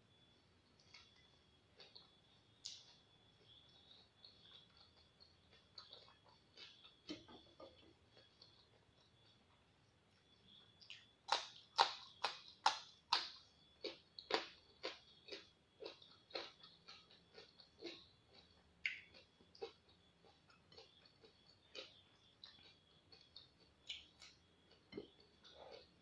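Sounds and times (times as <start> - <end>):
crunching of raw vegetables chewed: 0.8 - 9.4, 10.5 - 26.0.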